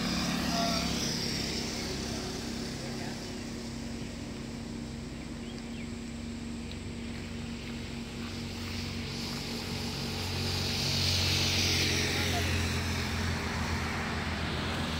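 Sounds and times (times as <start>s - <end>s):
road and wind noise: 0.0s - 14.9s
vehicle engine hum: 0.0s - 14.9s.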